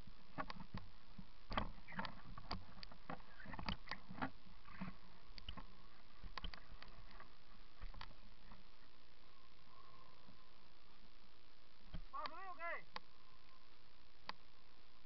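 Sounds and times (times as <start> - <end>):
muffled hiss: 0.0 - 15.0.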